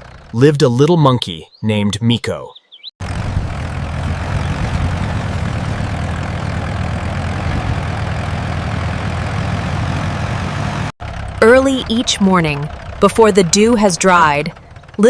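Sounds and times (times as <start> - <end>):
tractor engine running: 0.0 - 0.6, 3.0 - 15.0.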